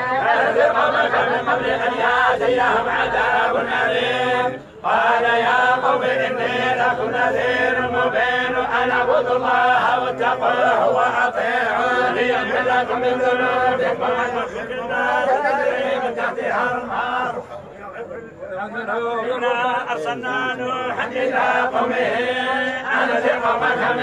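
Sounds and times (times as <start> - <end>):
men chanting recitation: 0.0 - 24.0.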